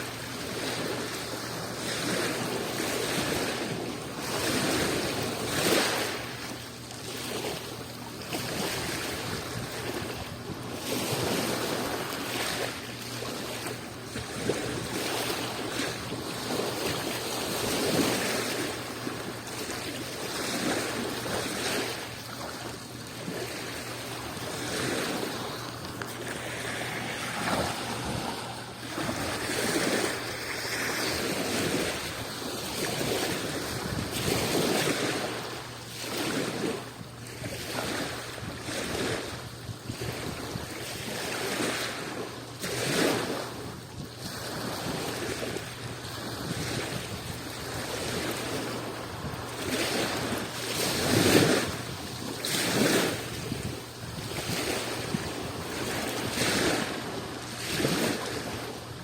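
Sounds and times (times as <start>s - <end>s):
small waves washing onto shore: 0.0s - 59.0s
wind on microphone: 7.9s - 59.0s.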